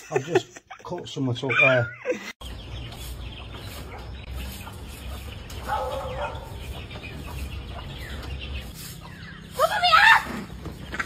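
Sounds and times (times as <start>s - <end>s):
bird chirps: 1.5s - 11.0s.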